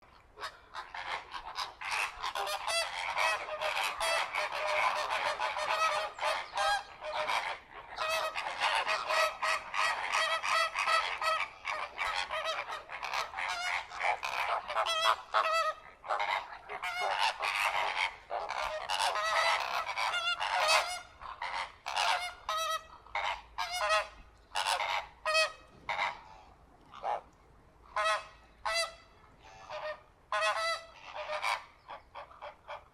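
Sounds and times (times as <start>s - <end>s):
flamingos honking: 0.4s - 32.9s.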